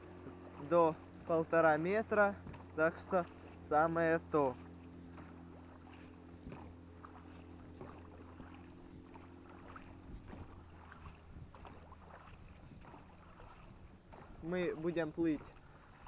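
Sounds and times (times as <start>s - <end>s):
oars splashing in water: 0.0s - 16.0s
steady low hum: 0.0s - 16.0s
oars knocking: 0.3s - 16.0s.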